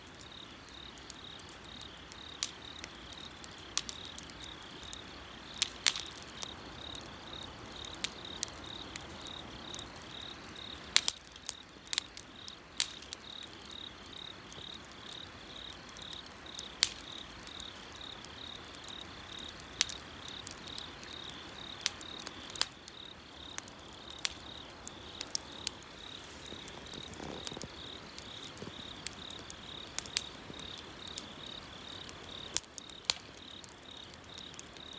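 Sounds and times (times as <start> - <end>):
bonfire wood crackling: 0.0 - 34.9
insects chirping: 0.1 - 34.9.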